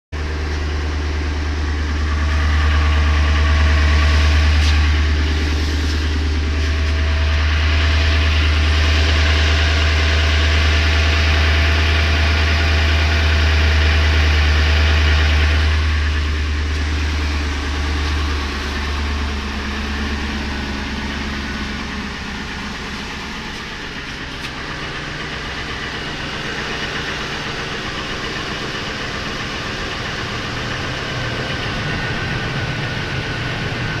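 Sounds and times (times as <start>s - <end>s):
engine idling with deep hum: 0.1s - 34.0s.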